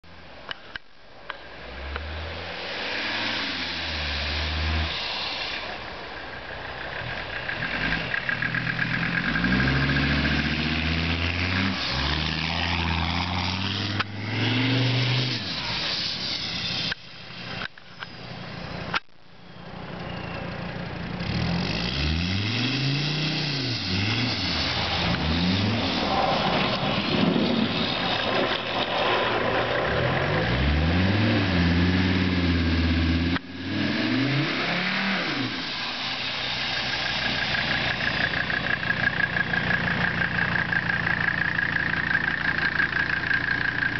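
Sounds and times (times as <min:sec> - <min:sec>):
diesel engine revving: 0:01.6 - 0:17.7, 0:20.0 - 0:43.9.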